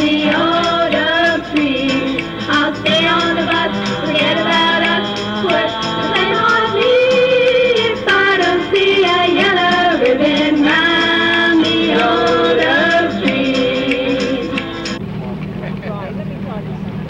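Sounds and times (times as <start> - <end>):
woman singing into a microphone: 0.0 - 14.7
live band music: 0.0 - 15.6
light ticking beat: 0.0 - 15.9.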